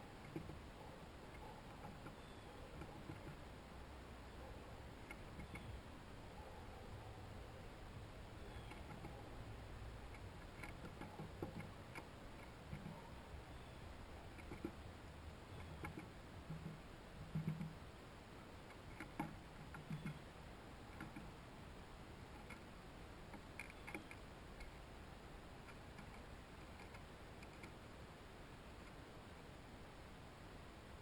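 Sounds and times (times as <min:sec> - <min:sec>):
birds pecking at seed feeder: 0:00.0 - 0:07.0, 0:07.7 - 0:29.6
steady low hiss: 0:00.0 - 0:31.0.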